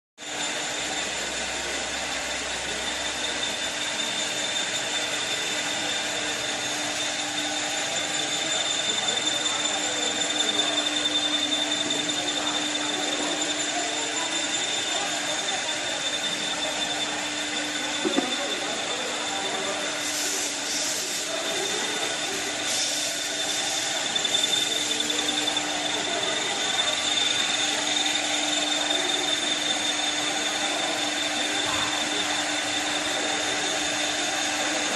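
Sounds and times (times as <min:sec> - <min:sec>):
wood lathe running: 0:00.3 - 0:34.9.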